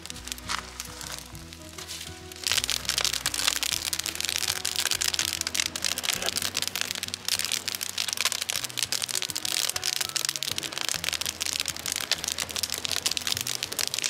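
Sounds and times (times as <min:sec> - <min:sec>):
twig fire crackling: 0:00.0 - 0:14.0.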